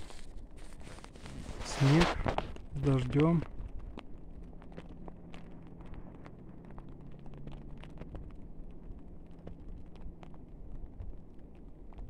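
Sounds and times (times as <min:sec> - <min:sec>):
freezing rain ticking on surfaces: 0:00.0 - 0:12.0.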